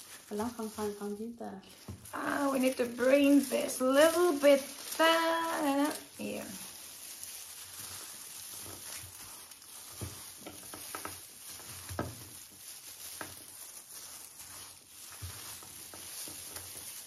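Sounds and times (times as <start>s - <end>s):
gloved hand squeezing salad: 0.0s - 17.0s.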